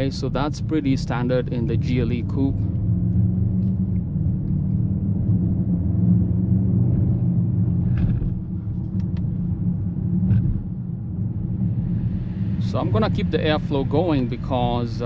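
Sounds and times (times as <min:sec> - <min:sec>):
car engine rumble in cabin: 0:00.0 - 0:15.0.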